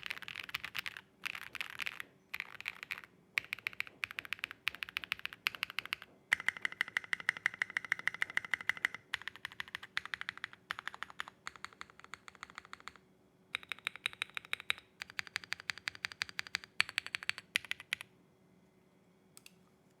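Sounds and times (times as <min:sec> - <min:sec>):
mechanical keyboard typing: 0:00.0 - 0:13.0, 0:13.6 - 0:18.0.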